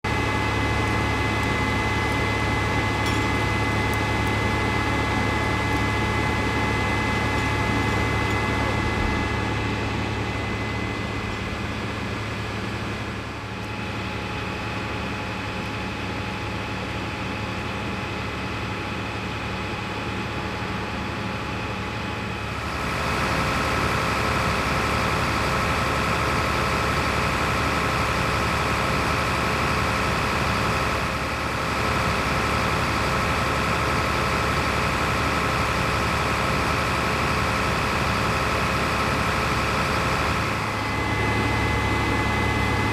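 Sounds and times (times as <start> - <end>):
fire engine motors running: 0.0 - 42.9.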